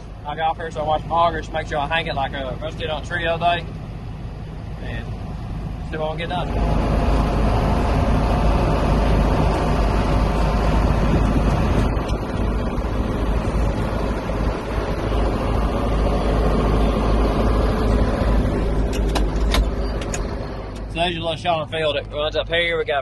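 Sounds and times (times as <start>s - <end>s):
tractor engine droning: 0.0s - 23.0s.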